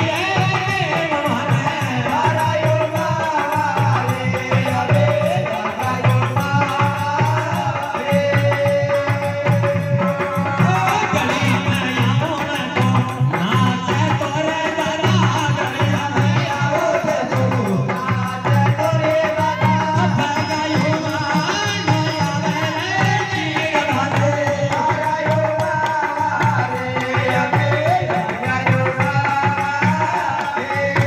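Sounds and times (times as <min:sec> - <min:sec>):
frame drums beating: 0:00.0 - 0:31.0.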